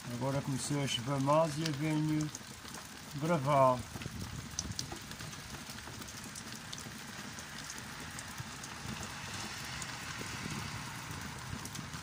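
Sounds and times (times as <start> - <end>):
single raindrops ticking close by: 0.0 - 12.0
steady rain falling: 0.0 - 12.0.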